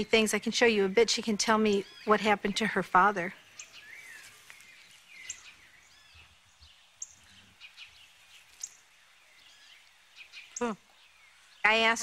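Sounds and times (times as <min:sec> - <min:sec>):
birds chirping: 0:00.0 - 0:12.0
quiet outdoor hiss: 0:00.0 - 0:12.0.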